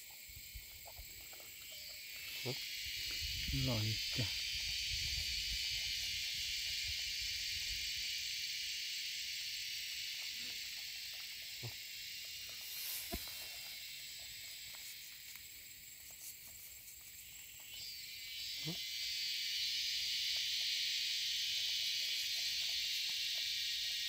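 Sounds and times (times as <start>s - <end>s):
insects droning in grass: 0.0s - 24.0s.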